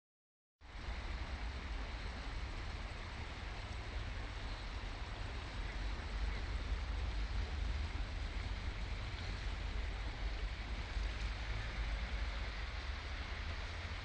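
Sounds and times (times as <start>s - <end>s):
floodwater rushing: 0.7s - 14.0s.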